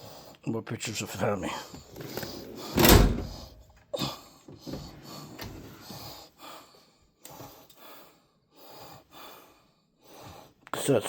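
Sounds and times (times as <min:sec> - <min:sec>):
person breathing: 0:01.7 - 0:10.6.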